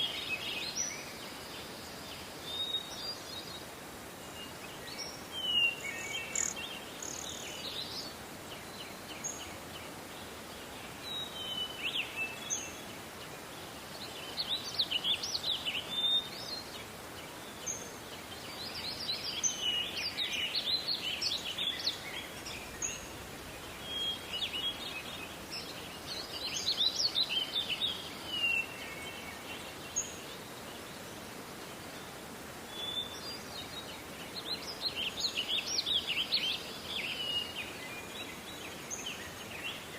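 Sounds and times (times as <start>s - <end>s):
songbirds singing: 0.0s - 39.9s
steady background hiss: 0.0s - 39.9s.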